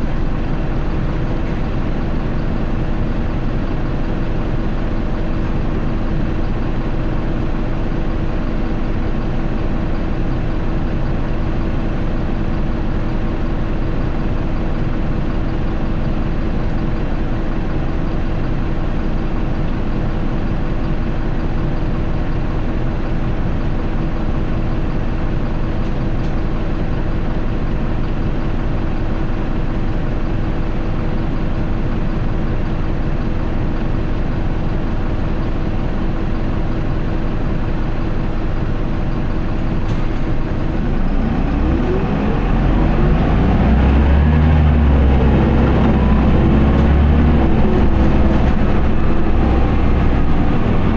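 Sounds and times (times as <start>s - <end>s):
bus diesel engine idling: 0.0s - 50.9s.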